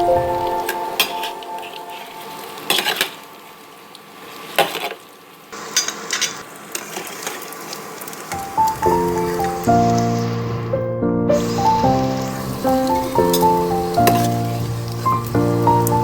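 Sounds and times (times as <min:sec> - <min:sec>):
food sizzling in a pan: 0:00.0 - 0:10.7, 0:11.3 - 0:16.0.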